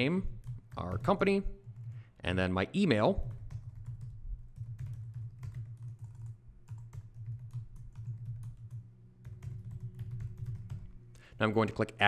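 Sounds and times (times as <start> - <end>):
steady low hum: 0.0 - 12.0
keyboard typing: 0.2 - 2.0, 3.2 - 12.0.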